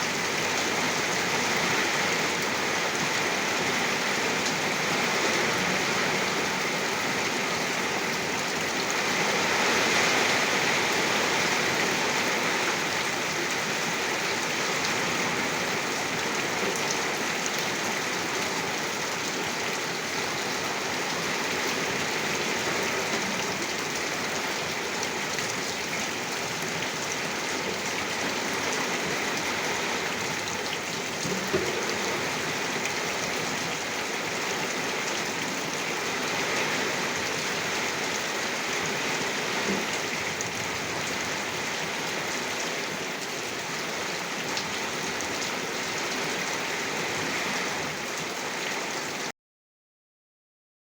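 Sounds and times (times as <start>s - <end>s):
heavy rain falling: 0.0s - 49.3s.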